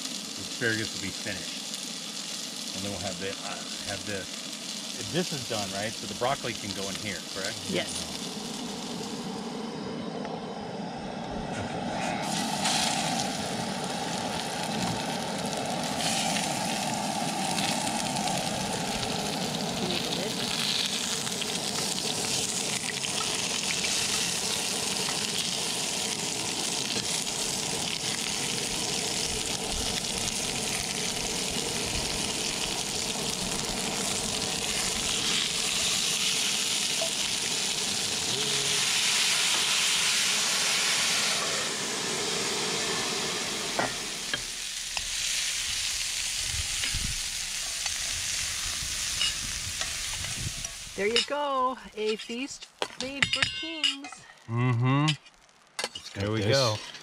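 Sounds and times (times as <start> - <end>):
food sizzling in a skillet: 0.0 - 9.6, 12.1 - 57.0.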